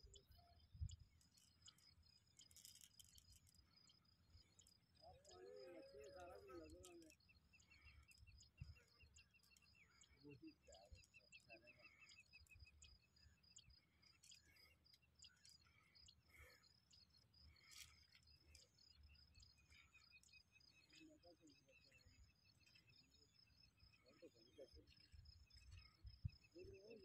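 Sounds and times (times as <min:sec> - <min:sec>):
rapid high-pitched chirping: 0:00.0 - 0:27.0.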